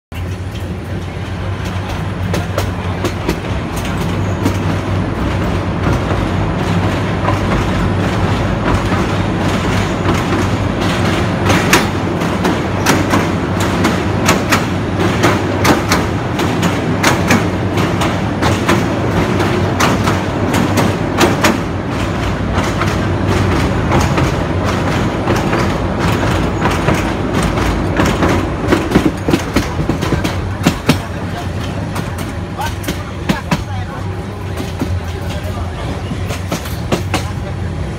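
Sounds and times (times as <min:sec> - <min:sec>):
train rumble with low hum: 0:00.1 - 0:37.9
wheels clacking over rail joints: 0:00.2 - 0:37.5.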